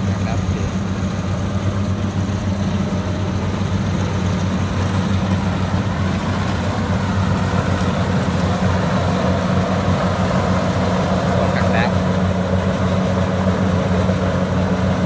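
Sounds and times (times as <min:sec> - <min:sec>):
combine harvester engine running: 0:00.0 - 0:15.0
machine working noise: 0:00.0 - 0:15.0.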